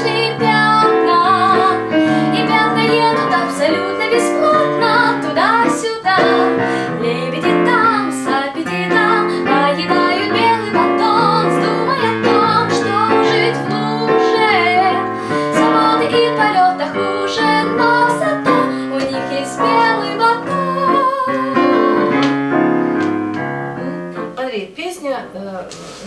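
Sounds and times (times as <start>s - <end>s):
woman singing: 0.0s - 22.3s
digital piano chords: 0.0s - 24.5s.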